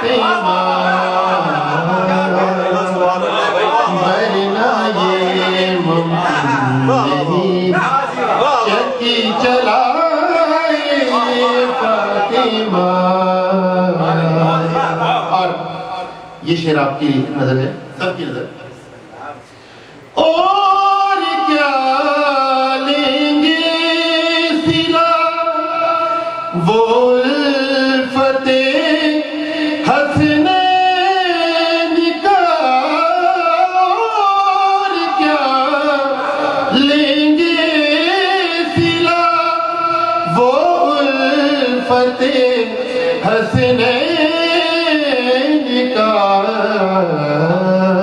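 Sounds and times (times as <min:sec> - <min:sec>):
man singing into a microphone: 0:00.0 - 0:17.8, 0:20.2 - 0:48.0.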